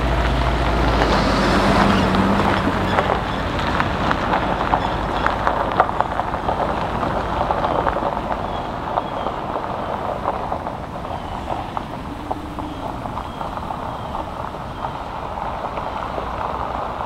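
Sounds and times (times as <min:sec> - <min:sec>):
low engine hum: 0:00.0 - 0:17.0
tyres on gravel: 0:00.0 - 0:17.0.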